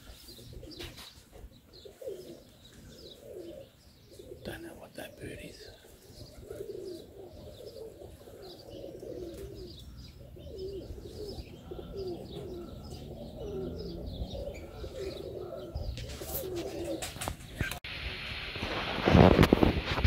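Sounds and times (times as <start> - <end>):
pigeons cooing: 0.0 - 17.8
small birds chirping: 0.0 - 17.8.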